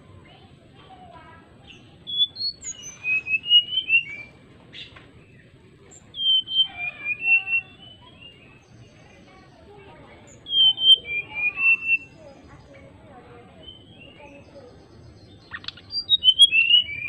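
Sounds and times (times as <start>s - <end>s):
bird whistling song: 1.7s - 9.2s, 10.1s - 12.8s, 13.6s - 17.0s.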